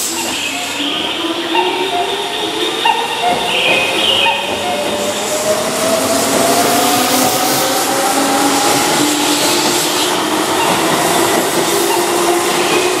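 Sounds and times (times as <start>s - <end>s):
train cars running noise: 0.0s - 13.0s.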